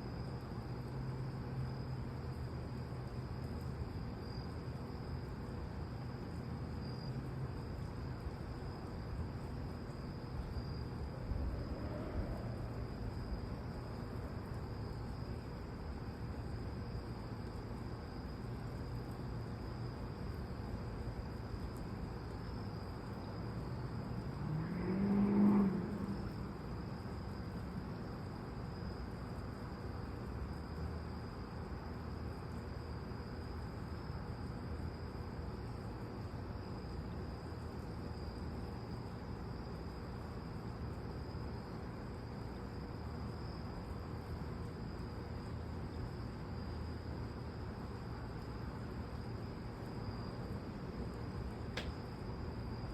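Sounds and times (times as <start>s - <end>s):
night insects chirring: 0.0s - 52.9s
soft background hiss: 0.0s - 52.9s.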